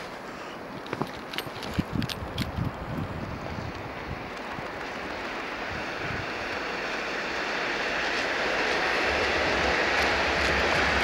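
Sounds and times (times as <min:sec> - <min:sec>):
train rushing: 0:00.0 - 0:11.0.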